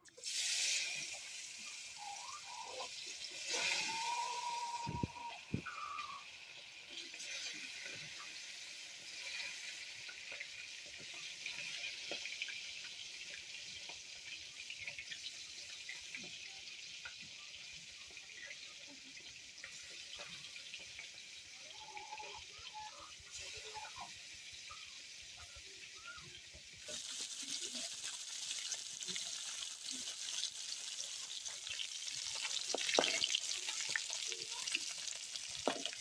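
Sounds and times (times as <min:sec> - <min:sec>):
oil popping and crackling: 0:00.0 - 0:21.6, 0:23.1 - 0:36.0
fish sizzling in hot oil: 0:00.0 - 0:36.0.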